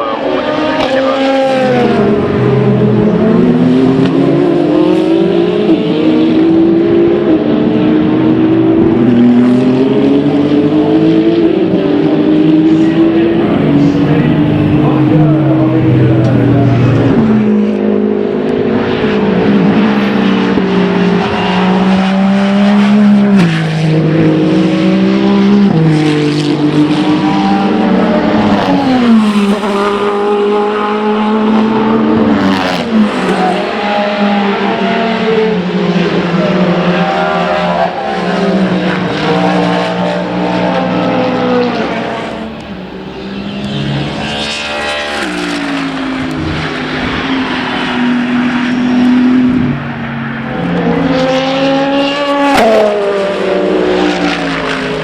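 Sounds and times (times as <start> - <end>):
race car engines at speed: 0.0 - 55.0.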